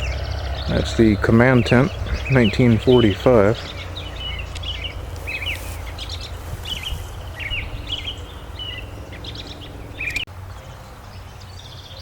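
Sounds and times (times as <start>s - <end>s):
steady low rumble: 0.0s - 10.3s
small birds chirping and trilling: 0.0s - 12.0s.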